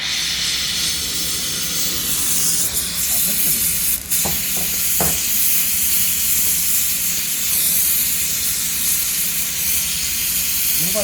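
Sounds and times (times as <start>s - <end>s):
arc welding hiss: 0.0s - 11.0s.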